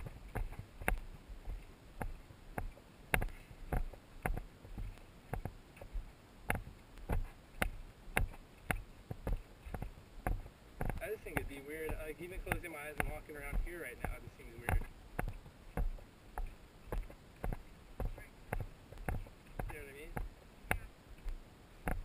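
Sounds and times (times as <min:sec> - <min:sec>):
footsteps on dirt trail: 0:00.0 - 0:22.0.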